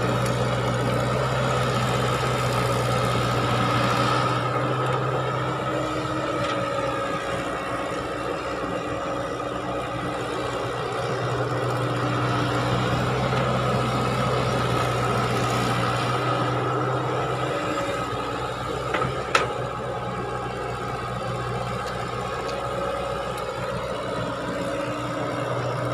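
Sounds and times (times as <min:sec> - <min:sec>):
excavator diesel engine humming: 0:00.0 - 0:25.9.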